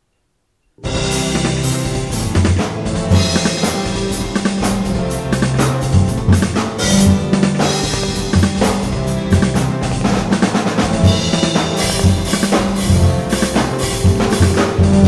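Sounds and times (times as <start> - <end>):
backing track with bass notes: 0.8 - 15.0
drum kit playing rock beat: 0.8 - 15.0.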